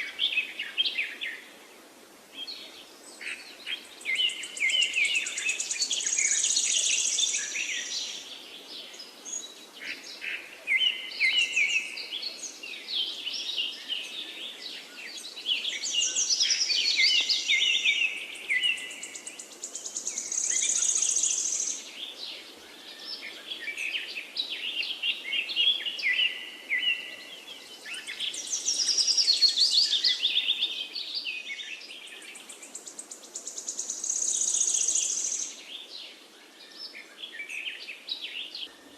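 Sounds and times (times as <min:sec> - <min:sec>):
faint background hiss: 0:00.0 - 0:38.9
songbirds singing: 0:00.0 - 0:38.9.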